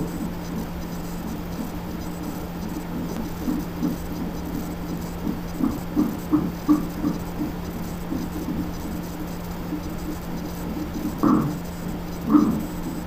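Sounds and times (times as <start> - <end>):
fetal heartbeat whooshing pulses: 0.0 - 13.0
monitor low hum: 0.0 - 13.0.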